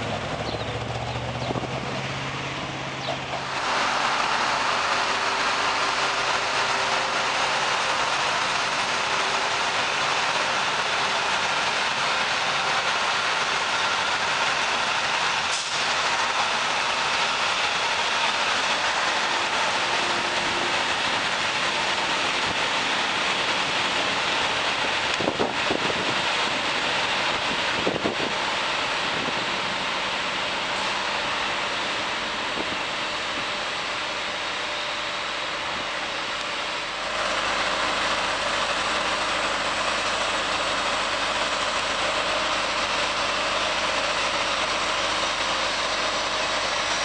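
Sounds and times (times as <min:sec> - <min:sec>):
diesel train engine drone: 0:00.0 - 0:47.0
loud rushing hiss: 0:02.7 - 0:47.0.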